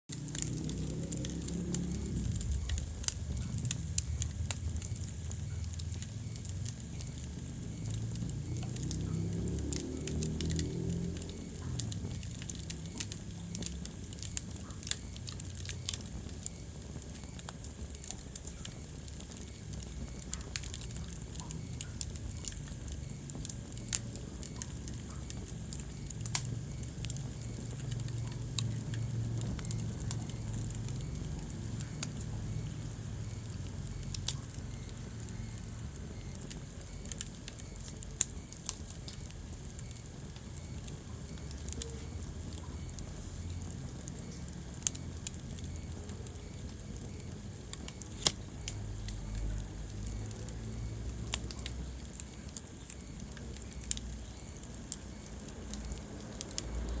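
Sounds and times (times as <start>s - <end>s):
sharp fire pops: 0.1s - 57.0s
wood fire crackling: 0.1s - 57.0s.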